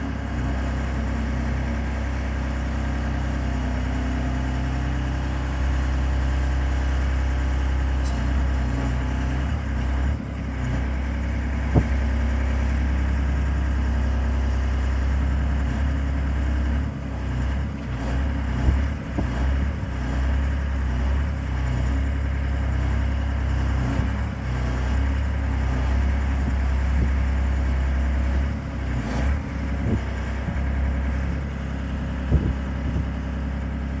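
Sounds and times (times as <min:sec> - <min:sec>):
crane engine running: 0:00.0 - 0:34.0.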